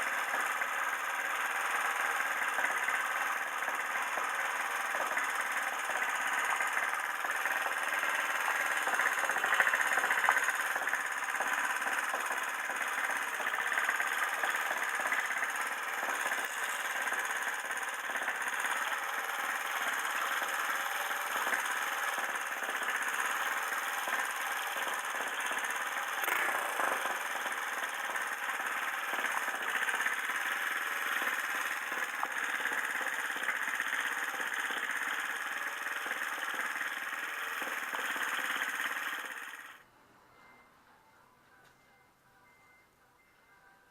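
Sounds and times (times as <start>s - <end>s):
engine idling: 0.0s - 39.8s.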